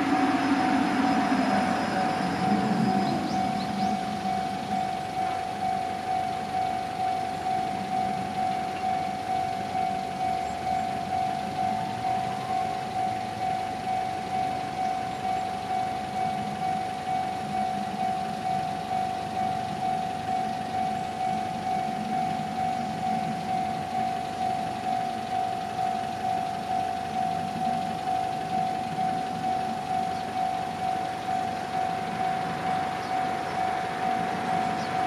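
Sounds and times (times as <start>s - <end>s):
level crossing warning bell: 0.0s - 35.0s.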